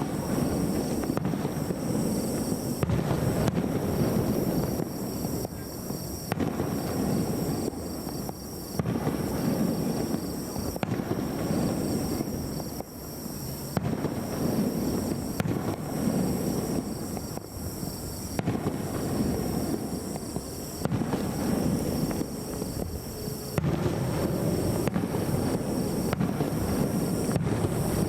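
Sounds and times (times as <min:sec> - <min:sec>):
firework bangs: 0:00.0 - 0:28.0
low rumble of explosions: 0:00.0 - 0:28.0.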